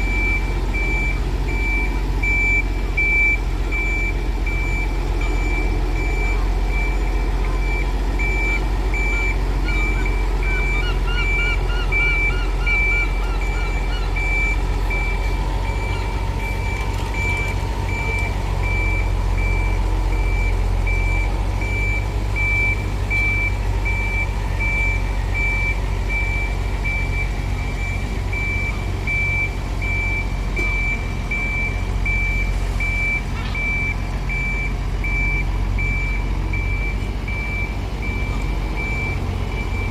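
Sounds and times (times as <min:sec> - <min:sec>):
low engine rumble: 0:00.0 - 0:39.9
reversing alarm beeping: 0:00.0 - 0:39.9.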